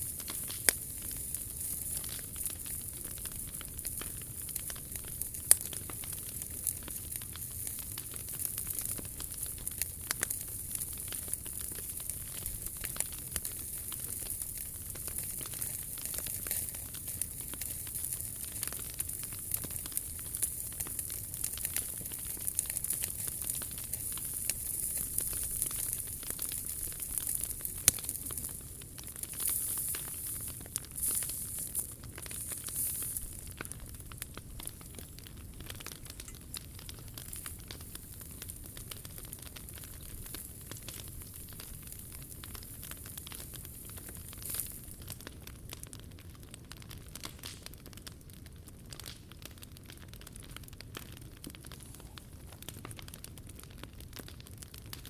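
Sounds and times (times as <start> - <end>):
sharp fire pops: 0.0 - 55.0
wood fire crackling: 0.0 - 55.0.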